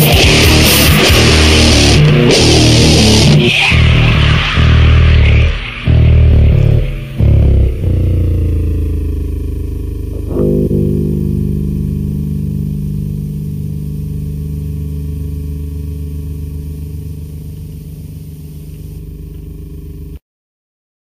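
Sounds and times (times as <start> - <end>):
low droning chord: 0.1 - 20.2.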